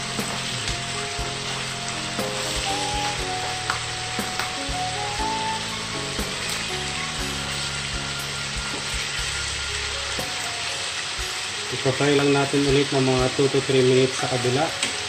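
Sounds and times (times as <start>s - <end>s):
pork sizzling in oil: 0.0s - 15.0s.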